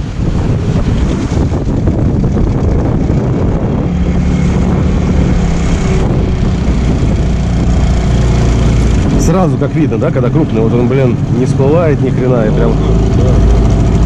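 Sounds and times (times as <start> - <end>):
outboard motor running: 0.0 - 14.0
water rushing past hull: 0.0 - 14.0
wind buffeting microphone: 0.0 - 14.0.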